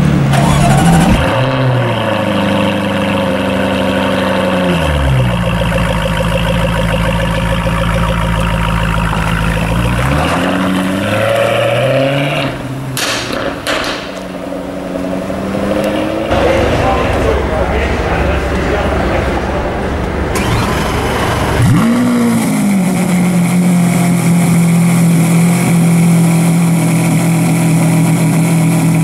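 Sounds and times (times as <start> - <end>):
car engine revving: 0.0 - 29.0
street noise: 0.0 - 29.0.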